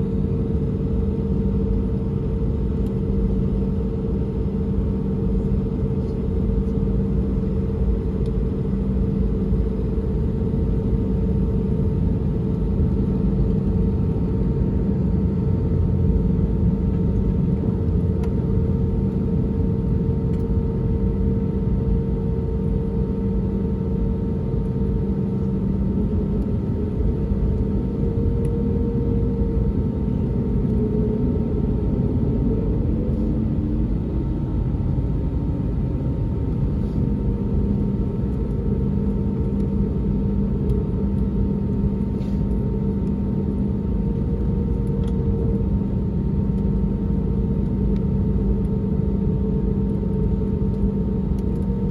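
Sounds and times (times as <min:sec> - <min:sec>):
airplane cabin engine drone: 0:00.0 - 0:51.9.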